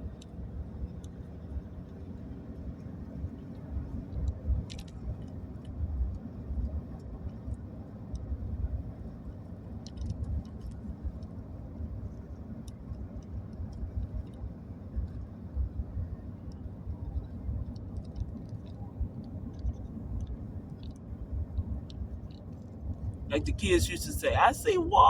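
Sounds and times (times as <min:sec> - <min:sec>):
vehicle road and engine rumble: 0:00.0 - 0:25.0.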